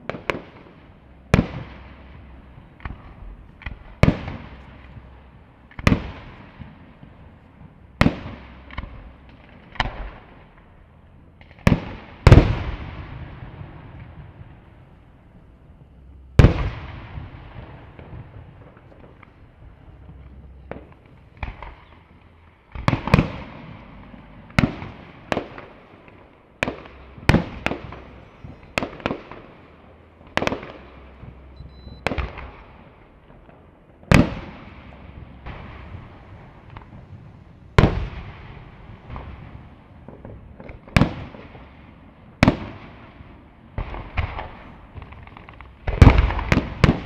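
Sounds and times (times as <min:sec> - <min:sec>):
fireworks bursting with sharp bangs: 0:00.0 - 0:47.0.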